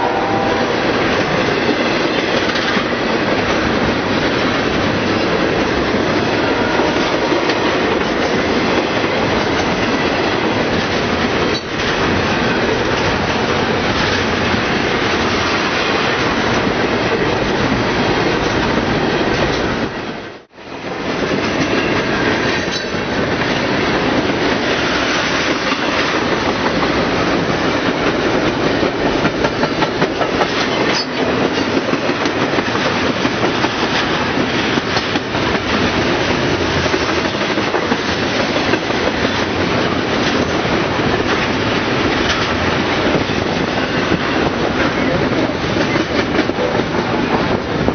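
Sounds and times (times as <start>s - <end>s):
freight train rumbling past: 0.0s - 47.9s
wheels clacking over rail joints: 1.0s - 20.0s, 21.2s - 47.9s.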